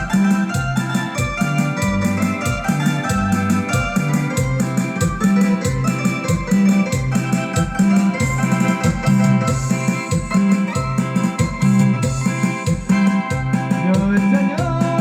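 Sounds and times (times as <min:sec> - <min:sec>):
bass line: 0:00.0 - 0:15.0
electronic keyboard melody: 0:00.0 - 0:15.0
steady beat: 0:00.0 - 0:15.0.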